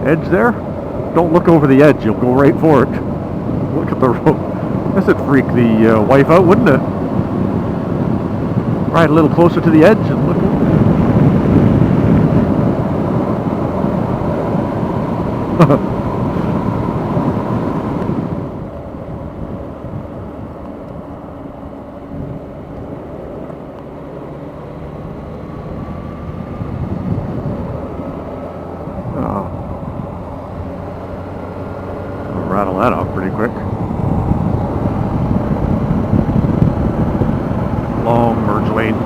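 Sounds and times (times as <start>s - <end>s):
motorcycle engine drone: 0.0s - 39.0s
wind rushing over microphone: 0.0s - 39.0s.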